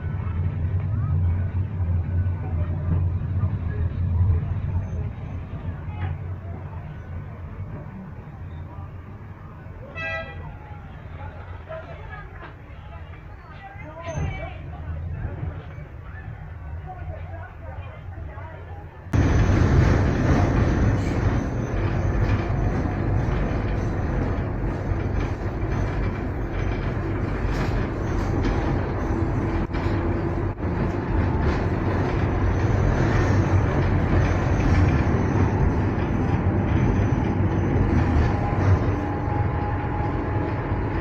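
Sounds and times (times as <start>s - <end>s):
tram rumbling on track: 0.0s - 41.0s.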